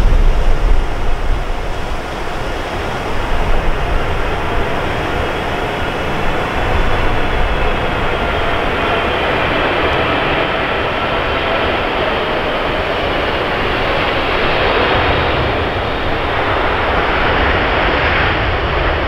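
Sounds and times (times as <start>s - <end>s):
jet engines rushing: 0.0s - 19.0s
wind rumbling on microphone: 0.0s - 19.0s.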